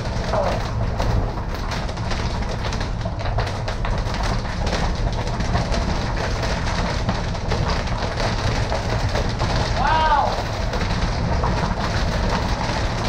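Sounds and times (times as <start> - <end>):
rain and hail ticking: 0.0 - 13.0
storm wind buffeting microphone: 0.0 - 13.0.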